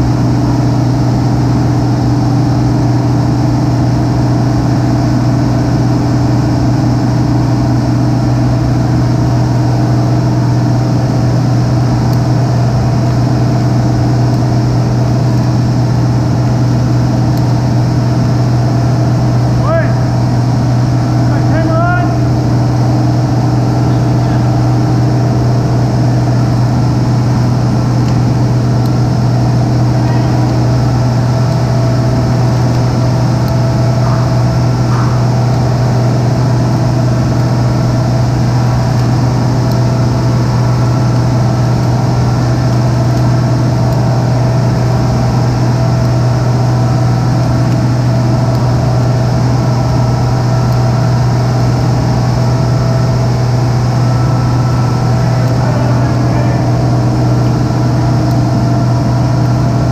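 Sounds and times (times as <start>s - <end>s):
machinery low hum drone: 0.0s - 59.9s.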